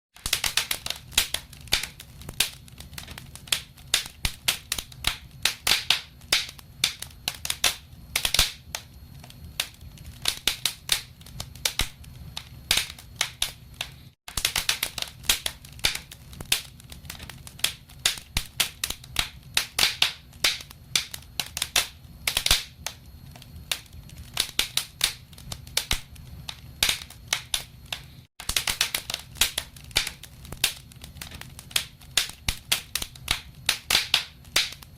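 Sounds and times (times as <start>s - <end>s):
low rumble of burning: 0.2s - 34.9s
wood fire crackling: 0.2s - 34.9s.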